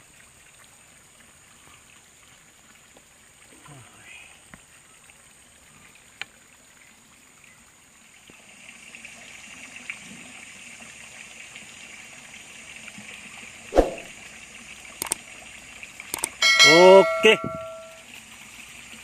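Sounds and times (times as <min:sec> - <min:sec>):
water trickling into a pond: 0:00.0 - 0:19.0.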